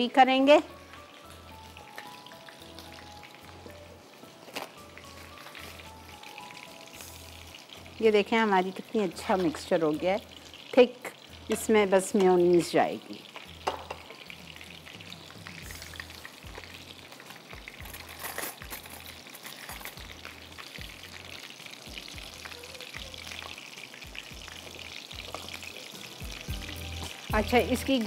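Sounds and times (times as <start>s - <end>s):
food frying in oil: 0.0s - 28.0s.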